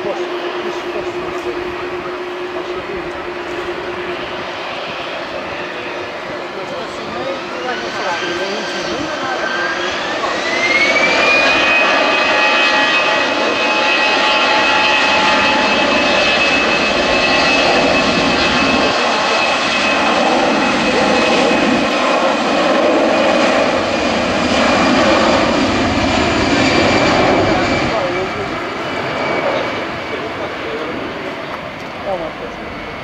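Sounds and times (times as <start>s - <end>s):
jet engine fan whine: 0.0s - 33.0s
loud rushing jet noise: 0.0s - 33.0s.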